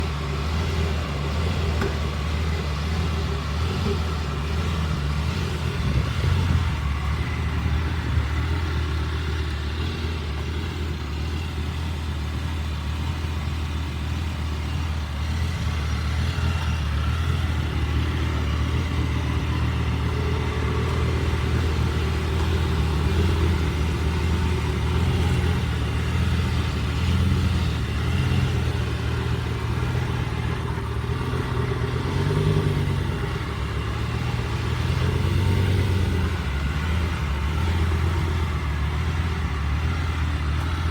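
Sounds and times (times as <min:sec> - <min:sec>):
car engine idling roughly: 0:00.0 - 0:40.9.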